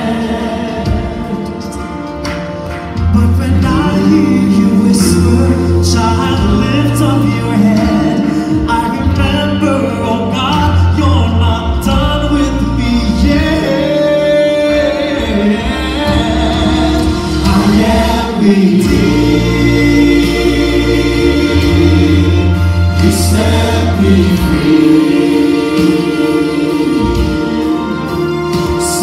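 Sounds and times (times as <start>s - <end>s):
choir singing: 0.0s - 2.3s, 3.0s - 10.4s, 12.4s - 29.0s
instrumental accompaniment: 0.0s - 29.0s
male soloist singing: 3.0s - 29.0s.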